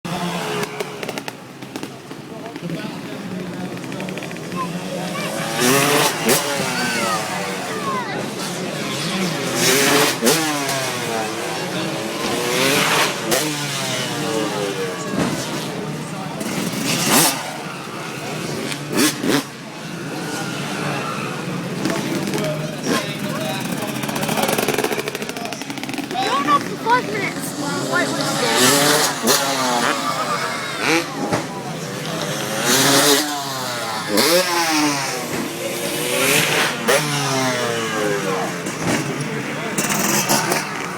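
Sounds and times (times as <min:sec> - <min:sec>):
motocross bikes revving: 0:00.1 - 0:40.9.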